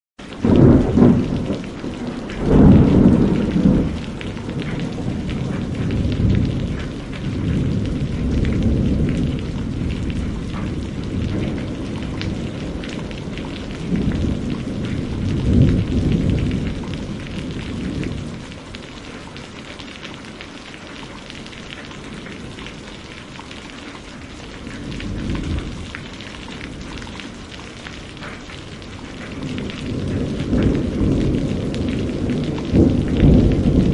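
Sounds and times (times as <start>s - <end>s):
heavy rain pouring: 0.2s - 33.9s
thunder rumbling: 0.3s - 19.6s, 21.4s - 23.6s, 24.2s - 33.9s.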